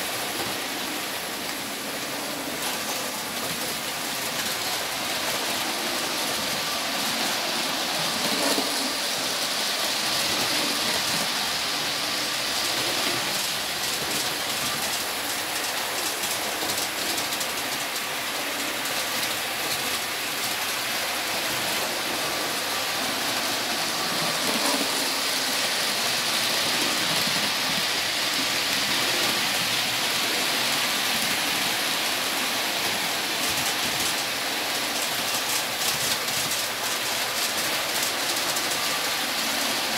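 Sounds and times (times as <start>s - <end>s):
model train wheels rolling on track: 0.0s - 39.9s
rapid rail clicks: 0.0s - 39.9s.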